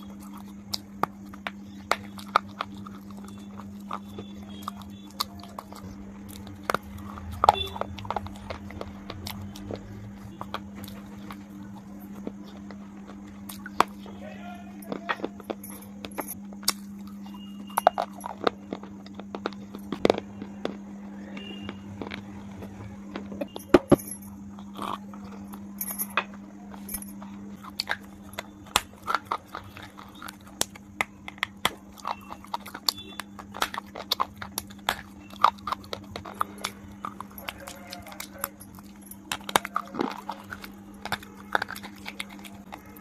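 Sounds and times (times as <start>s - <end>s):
crunchy chewing: 0.0s - 43.0s
steady low hum: 0.0s - 43.0s.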